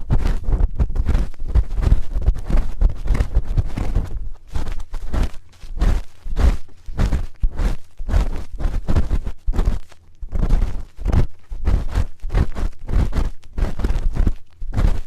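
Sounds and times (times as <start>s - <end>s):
spoon scraping a microphone: 0.0s - 15.0s.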